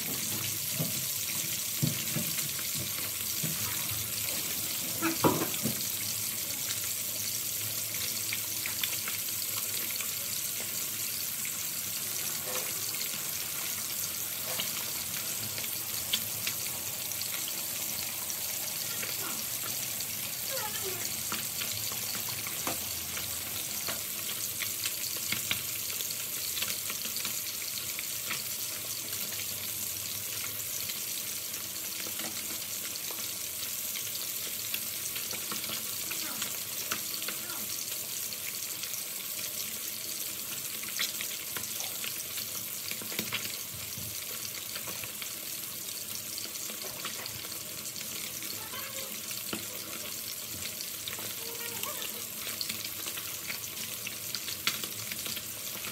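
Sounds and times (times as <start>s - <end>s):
fish deep-frying in oil: 0.0s - 55.9s.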